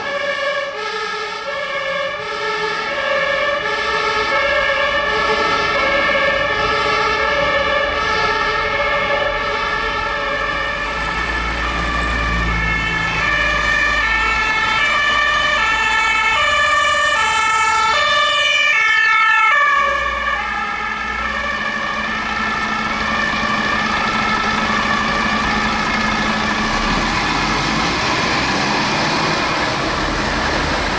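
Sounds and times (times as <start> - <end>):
vehicle engine drone: 0.0 - 18.9, 19.5 - 30.9
two-tone emergency sirens: 0.0 - 30.9.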